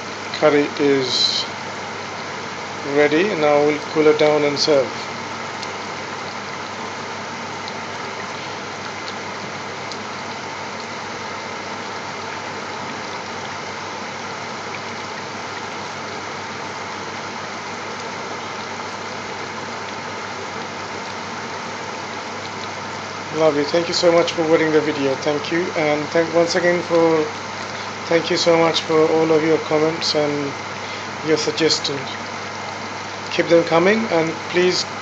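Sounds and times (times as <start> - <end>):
stovetop rushing hum: 0.0 - 35.0.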